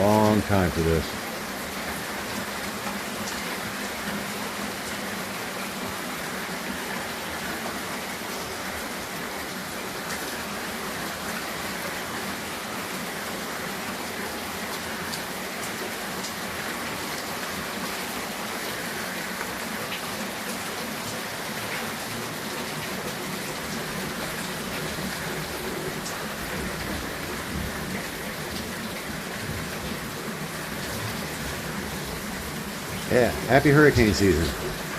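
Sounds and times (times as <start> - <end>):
rain falling steadily: 0.0 - 34.9.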